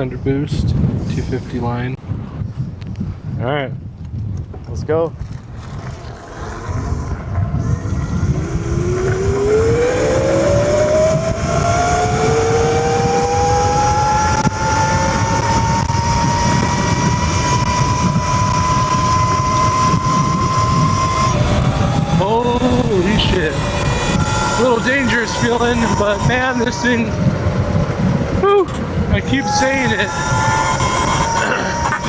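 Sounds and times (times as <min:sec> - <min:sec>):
low rush of wind noise: 0:00.0 - 0:32.0
electric motor whining: 0:05.7 - 0:32.0.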